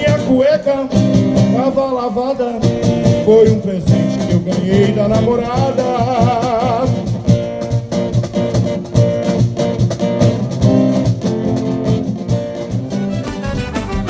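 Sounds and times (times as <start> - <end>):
carnival band held notes: 2.6 - 14.0
percussion strokes: 2.6 - 14.0.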